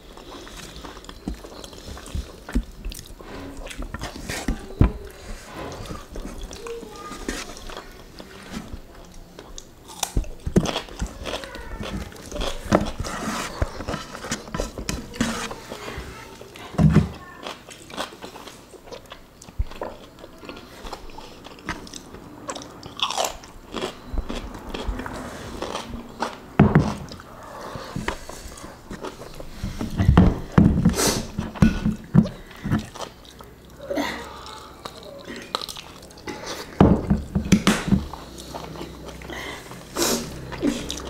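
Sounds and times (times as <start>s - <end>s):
chewing and crunching food: 0.0s - 41.0s.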